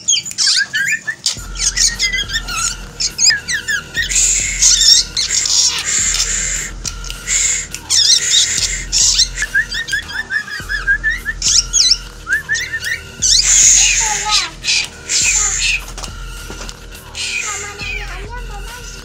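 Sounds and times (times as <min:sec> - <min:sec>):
bird chirps and whistles: 0:00.0 - 0:19.0
bird rasping squawks: 0:00.0 - 0:19.0.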